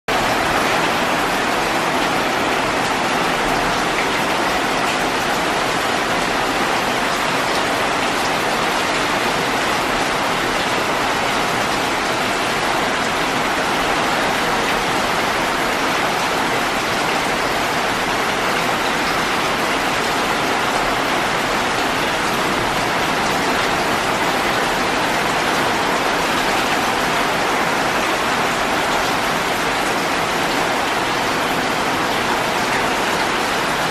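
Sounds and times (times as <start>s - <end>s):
heavy rain on leaves and trees: 0.1s - 33.9s.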